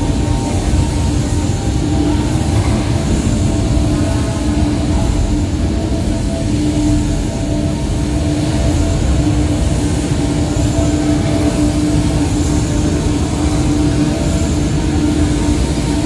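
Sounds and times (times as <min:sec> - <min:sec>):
low rumbling drone with pulsing hum: 0:00.0 - 0:16.0.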